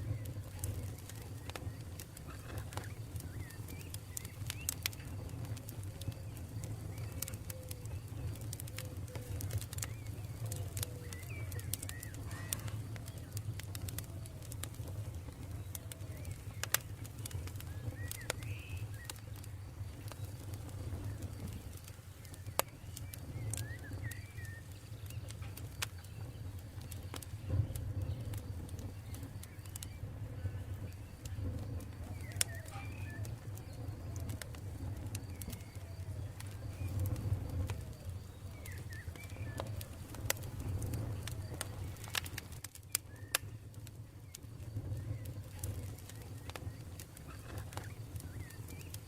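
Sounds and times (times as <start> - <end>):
birds chirping: 0.0 - 49.0
campfire crackling and popping: 0.0 - 49.0.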